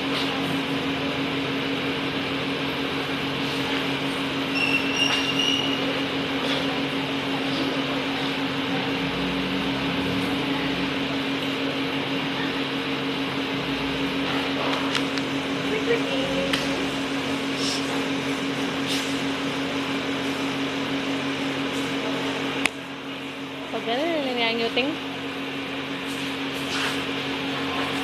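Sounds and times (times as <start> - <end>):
low hum: 0.0 - 25.9.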